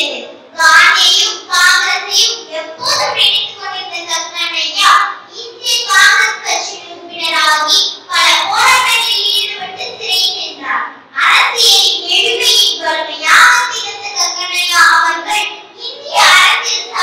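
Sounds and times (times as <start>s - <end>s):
girl giving a speech: 0.0s - 17.0s.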